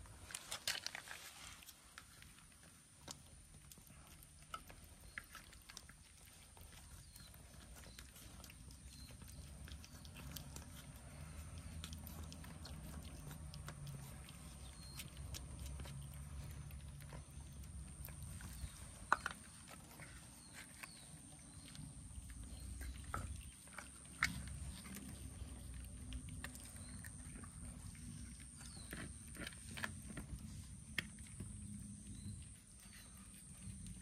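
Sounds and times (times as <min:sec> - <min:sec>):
cats chewing food: 0:00.0 - 0:34.0.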